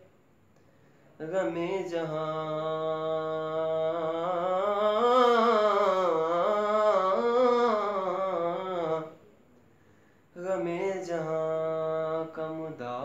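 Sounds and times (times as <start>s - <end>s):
man singing unaccompanied: 1.2s - 9.3s, 10.3s - 13.0s.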